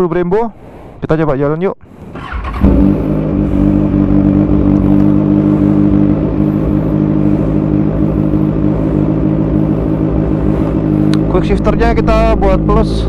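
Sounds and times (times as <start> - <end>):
motorcycle engine idling: 2.2 - 13.0.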